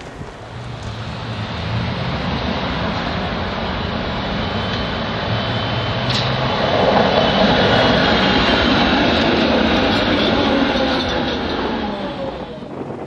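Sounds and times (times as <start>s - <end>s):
tram rumbling along rails: 0.0s - 13.0s.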